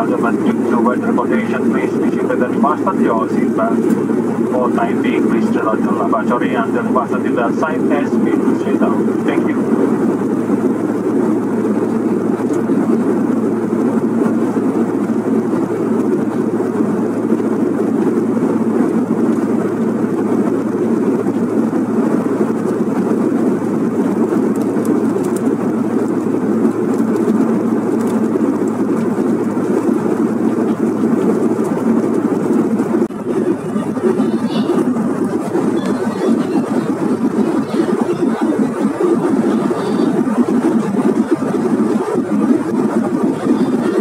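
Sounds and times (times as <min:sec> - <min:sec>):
jet cabin engine roar: 0:00.0 - 0:44.0.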